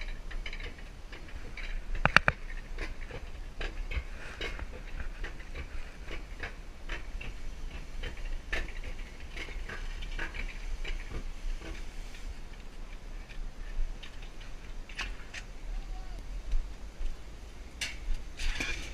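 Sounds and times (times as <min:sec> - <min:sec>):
coaster cart clicking on rails: 0:00.0 - 0:18.9
steady low rumble: 0:00.0 - 0:18.9.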